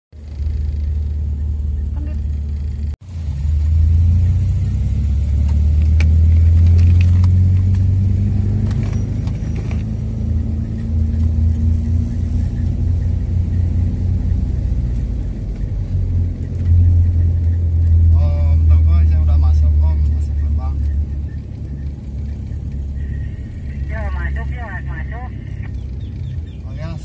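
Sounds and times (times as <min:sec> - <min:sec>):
car engine and road noise: 0:00.1 - 0:27.0.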